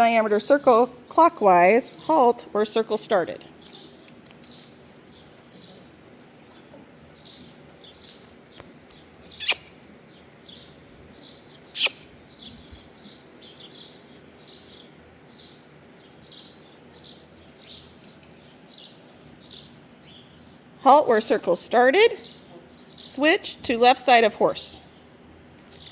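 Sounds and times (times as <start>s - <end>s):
birds chirping: 1.8s - 25.9s.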